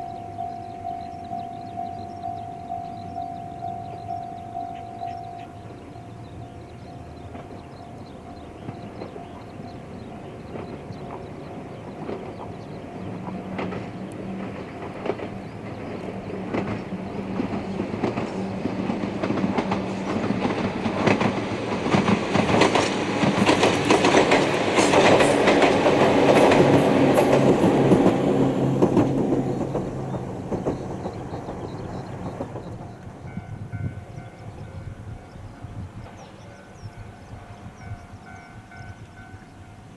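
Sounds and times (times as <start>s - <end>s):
train motor hum: 0.0s - 34.9s
train wheels clicking over rail joints: 0.1s - 34.6s.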